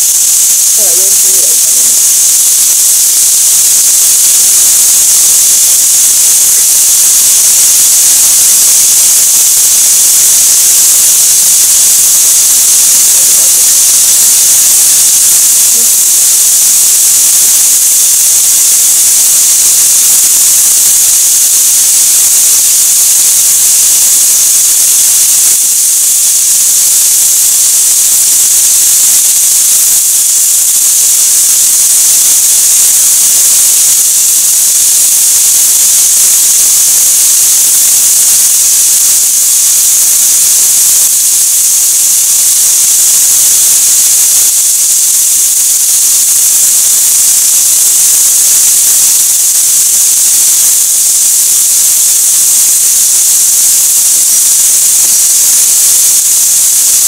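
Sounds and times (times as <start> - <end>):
chicken sizzling in oil: 0.0 - 55.2.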